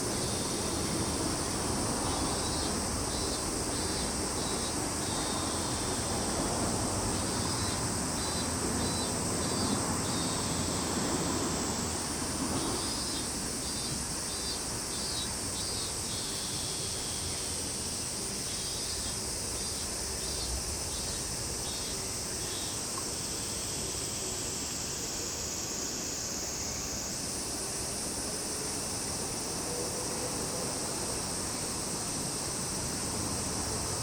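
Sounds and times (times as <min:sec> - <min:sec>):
high-pitched insect drone: 0:00.0 - 0:34.0
insect pulsed chirping: 0:00.0 - 0:34.0.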